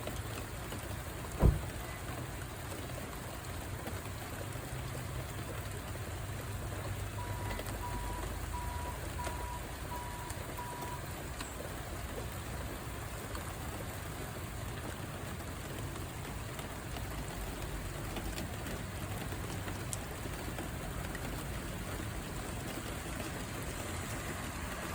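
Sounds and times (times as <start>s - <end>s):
sharp raindrop ticks: 0.0s - 24.9s
steady rain falling: 0.0s - 24.9s.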